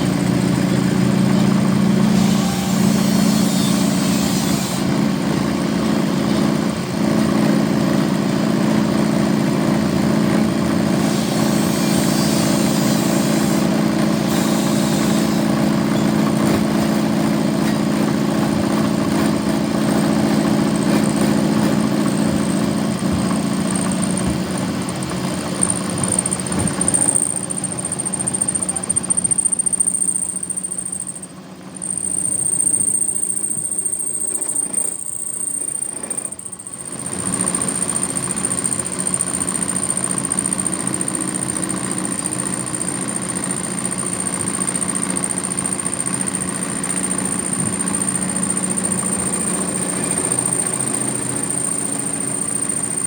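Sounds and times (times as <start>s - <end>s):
machine humming with high whine: 0.0s - 53.0s.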